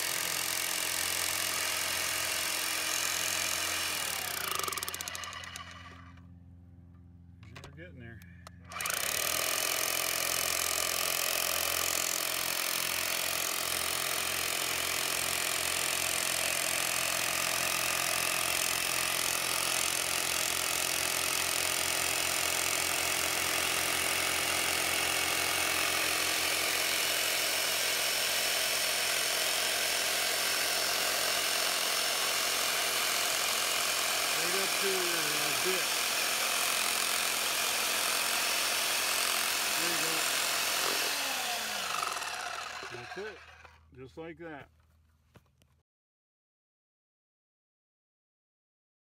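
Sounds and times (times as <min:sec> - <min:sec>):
power hammer pulsing: 0:00.0 - 0:06.2, 0:08.6 - 0:43.8.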